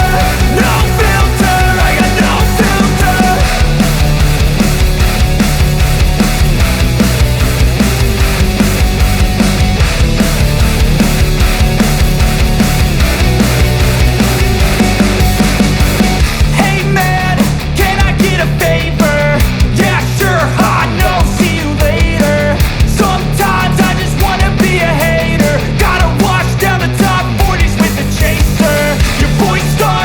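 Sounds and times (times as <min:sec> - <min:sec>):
rock song with singing: 0:00.0 - 0:30.0.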